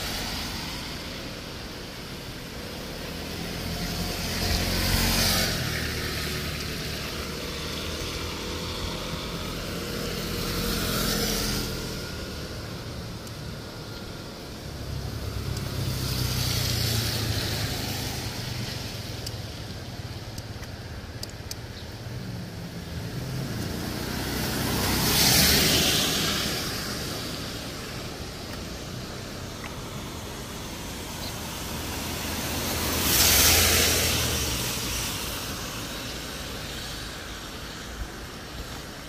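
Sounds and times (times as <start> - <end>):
cars passing on wet road: 0.0 - 39.0.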